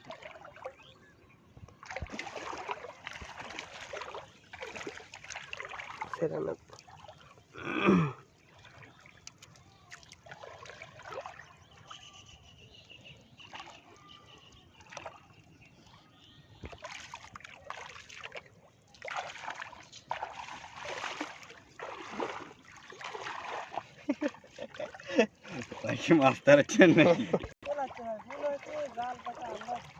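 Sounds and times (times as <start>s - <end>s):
water splashing and trickling: 0.0s - 29.9s.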